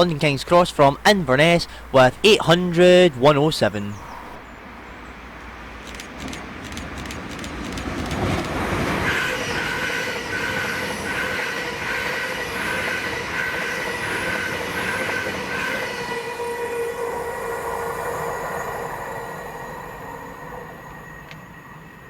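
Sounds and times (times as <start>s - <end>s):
train passing rumble: 4.0s - 22.0s.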